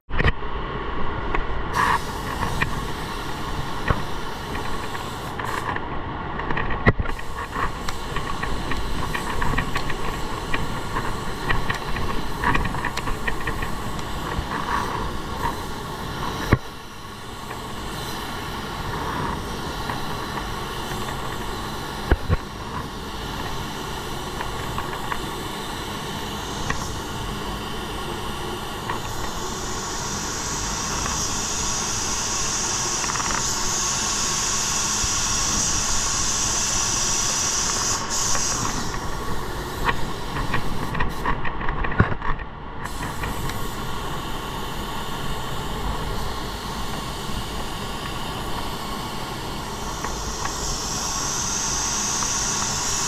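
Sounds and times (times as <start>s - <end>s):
paint spray gun hissing: 1.7s - 5.8s, 7.0s - 41.4s, 42.8s - 53.0s.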